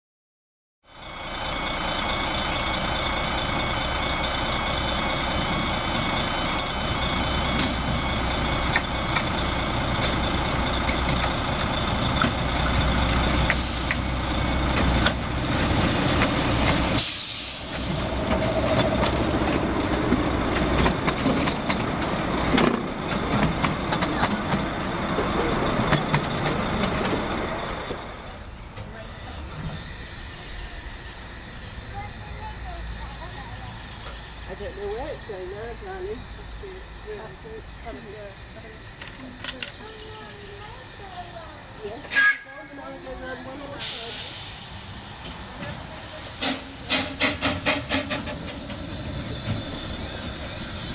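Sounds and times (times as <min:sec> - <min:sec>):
steam locomotive rumble and hiss: 0:00.9 - 0:50.9.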